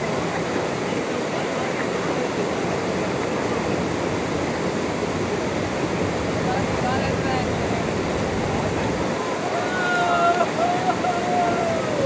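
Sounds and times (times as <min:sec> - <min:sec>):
water rushing through sluice gate: 0:00.0 - 0:12.0.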